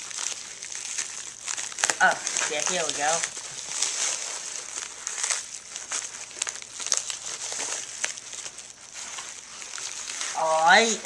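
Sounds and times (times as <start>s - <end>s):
cardboard box crinkling and rustling: 0.0s - 11.0s.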